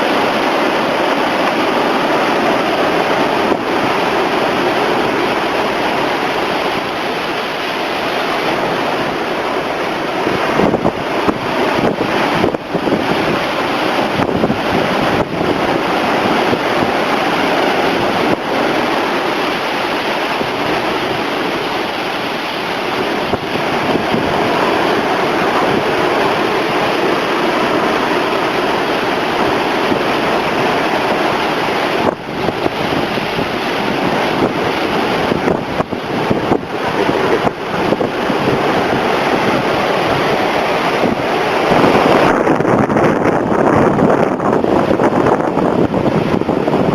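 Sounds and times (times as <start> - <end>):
heavy surf breaking: 0.0 - 46.9
wind buffeting microphone: 0.0 - 46.9.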